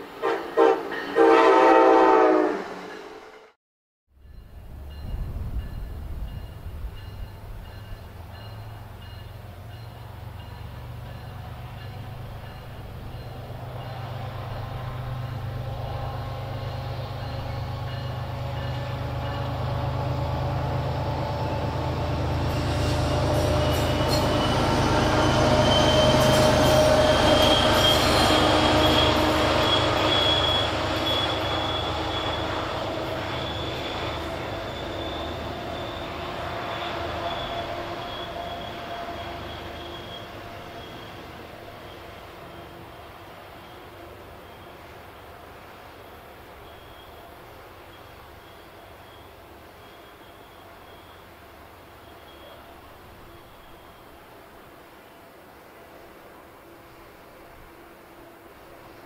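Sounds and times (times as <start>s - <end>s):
train wheel squeal: 4.2s - 55.3s
diesel locomotive engine drone: 4.2s - 59.0s.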